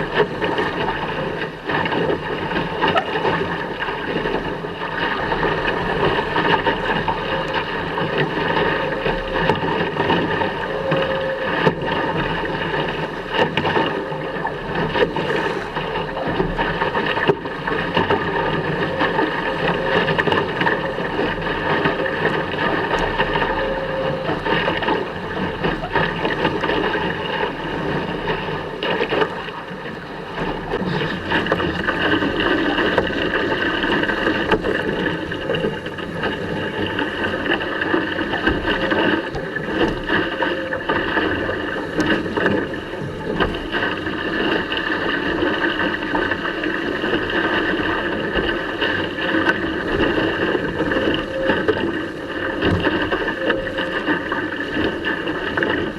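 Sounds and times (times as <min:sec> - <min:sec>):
water rushing along hull: 0:00.0 - 0:55.9.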